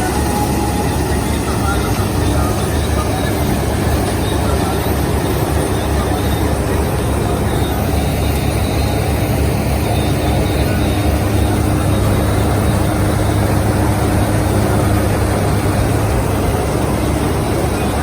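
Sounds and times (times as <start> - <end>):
combine harvester engine rumble: 0.0 - 18.0.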